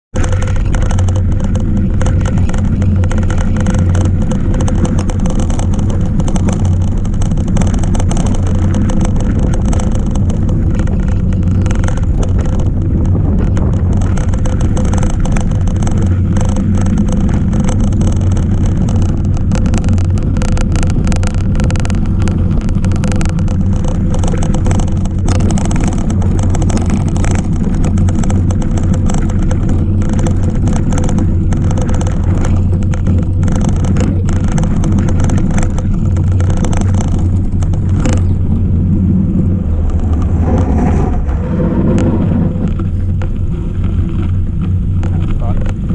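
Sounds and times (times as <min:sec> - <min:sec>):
rumble of tyres and wind: 0:00.0 - 0:45.9
bike rattling and knocking: 0:00.1 - 0:45.9.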